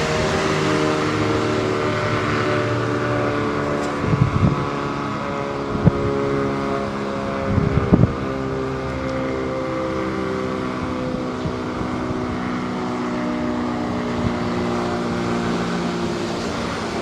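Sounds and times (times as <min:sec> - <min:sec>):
warning siren chord: 0:00.0 - 0:17.0.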